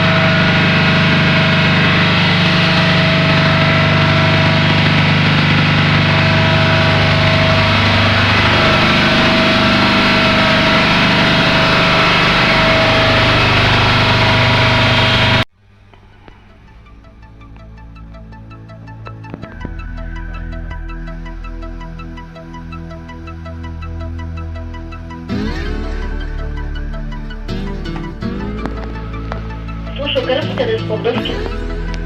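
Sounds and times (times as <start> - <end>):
air compressor droning: 0.0 - 32.0.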